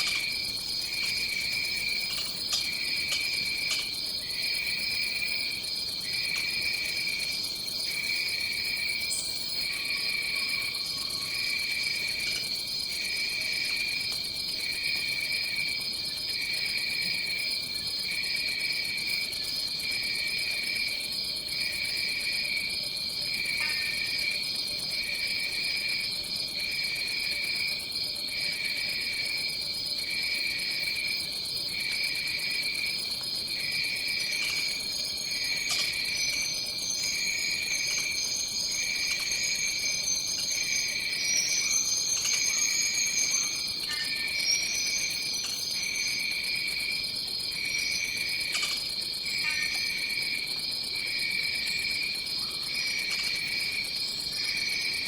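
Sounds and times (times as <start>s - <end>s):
pulsing insect chorus: 0.0s - 55.0s.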